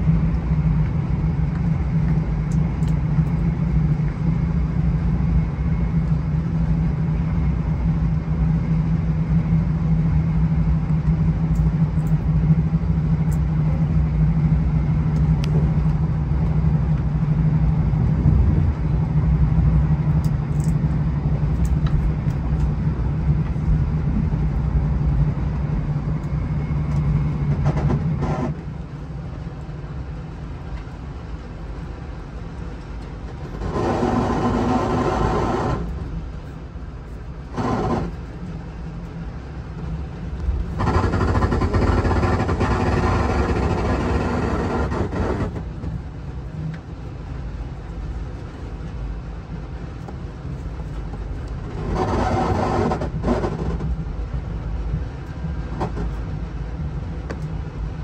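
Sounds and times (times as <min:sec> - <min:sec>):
vehicle engine hum and running noise: 0:00.0 - 0:58.0.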